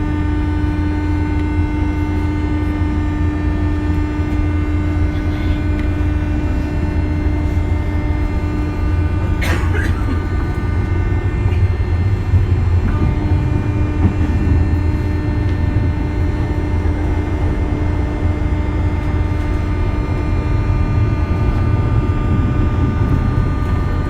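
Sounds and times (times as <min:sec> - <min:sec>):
electric train low rumble: 0:00.0 - 0:24.0
steady humming tones: 0:00.0 - 0:24.0.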